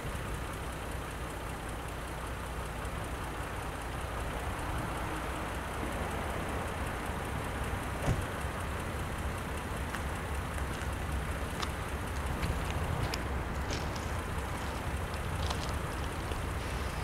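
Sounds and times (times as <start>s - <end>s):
locomotive engine rumble: 0.0s - 17.0s.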